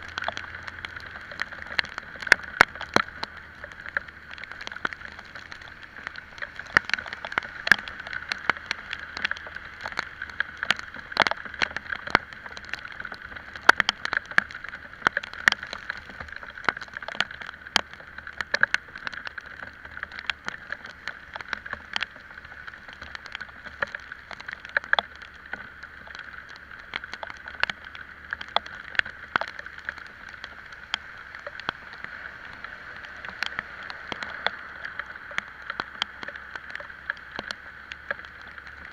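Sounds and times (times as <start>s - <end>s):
raindrops tapping on microphone: 0.0s - 38.9s.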